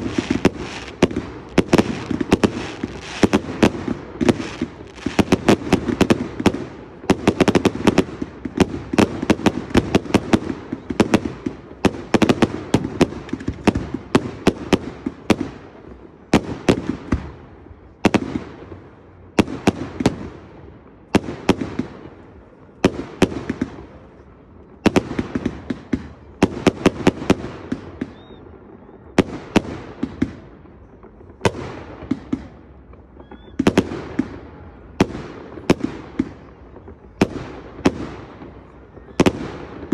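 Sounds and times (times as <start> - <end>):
fireworks bursting with echoes: 0.0 - 39.9.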